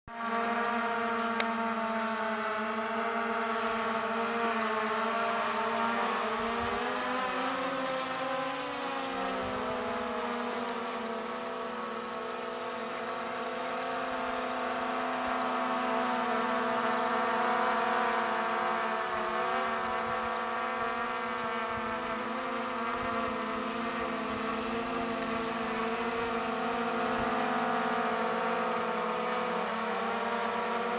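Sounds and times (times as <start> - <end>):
drone motors whining: 0.2 - 30.9.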